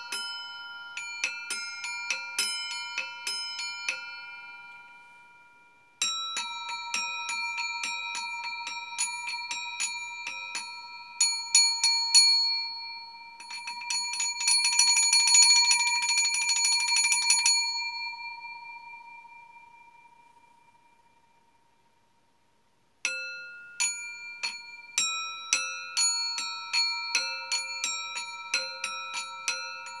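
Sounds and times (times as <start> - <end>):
singing bowl ringing: 0.0 - 21.9, 23.1 - 30.0.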